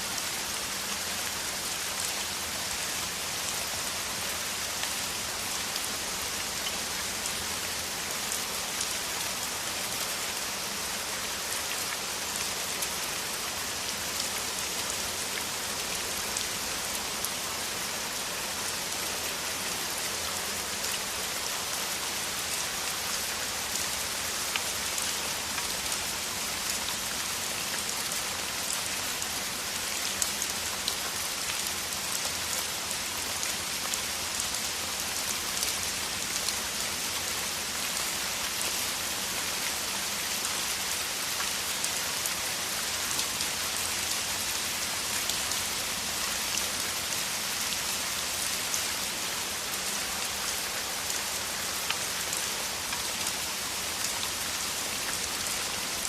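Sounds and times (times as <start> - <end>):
heavy rain downpour: 0.0 - 56.0.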